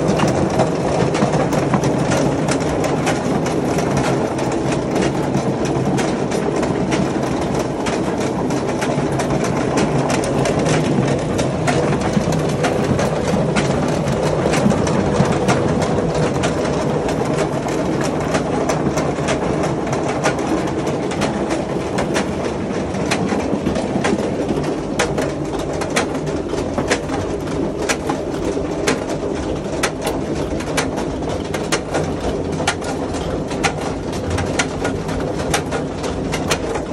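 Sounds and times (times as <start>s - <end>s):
machine churning: 0.0s - 36.9s.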